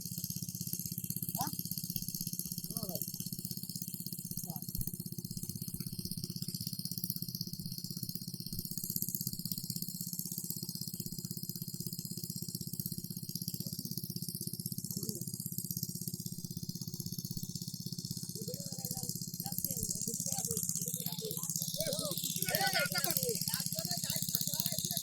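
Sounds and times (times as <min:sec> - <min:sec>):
small engine rattling: 0:00.0 - 0:25.0.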